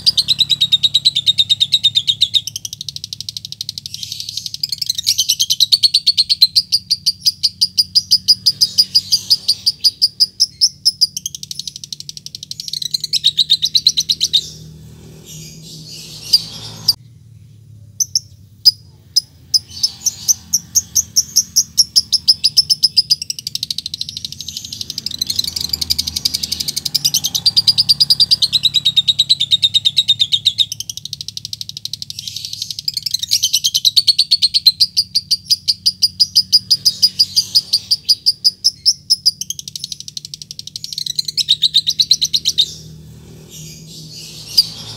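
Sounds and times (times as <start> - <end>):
bird chattering high chirps: 0.0 - 17.0, 18.0 - 44.9.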